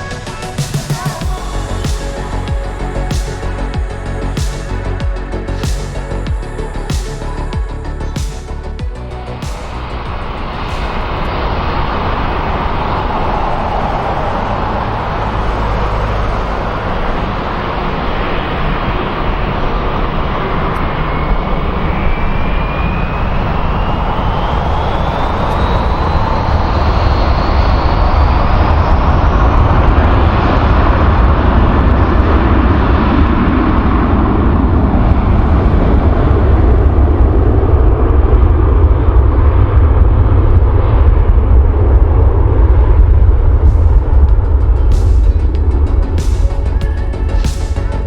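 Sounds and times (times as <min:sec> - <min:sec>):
jet engines running: 0:00.0 - 0:48.0
thin whine rising in pitch: 0:00.0 - 0:48.0.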